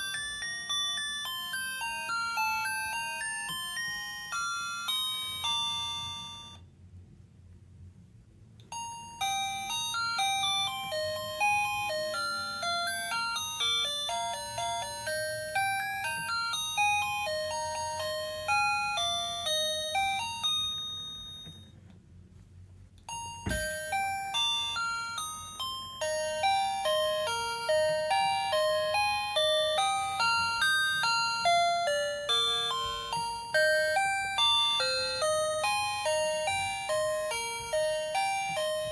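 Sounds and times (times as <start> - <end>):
tinny electronic chime melody: 0.0 - 6.6, 8.7 - 21.8, 23.1 - 38.9.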